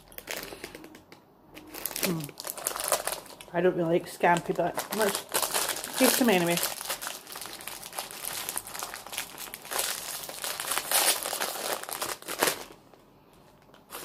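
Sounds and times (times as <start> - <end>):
plastic snack packet crinkling: 0.0 - 14.0.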